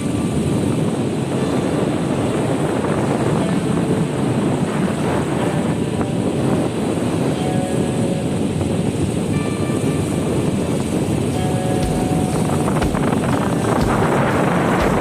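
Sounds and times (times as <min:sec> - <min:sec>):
sea water rushing: 0:00.0 - 0:15.0
wind buffeting microphone: 0:00.0 - 0:15.0.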